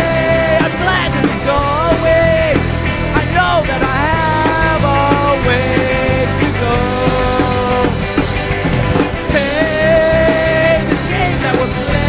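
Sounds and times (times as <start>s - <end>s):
indie rock band playing: 0.0s - 12.0s
melodic lead line sliding: 0.0s - 12.0s.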